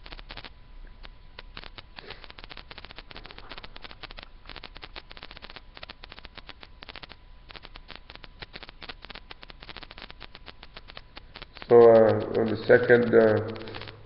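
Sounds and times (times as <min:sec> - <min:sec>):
rapid clicking and crackling: 0:00.0 - 0:14.0.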